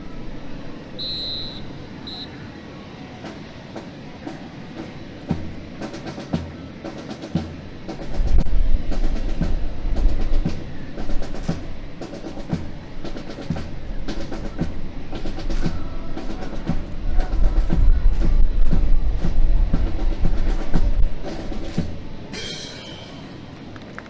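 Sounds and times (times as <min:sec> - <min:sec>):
steady drum beat: 0:03.2 - 0:23.4.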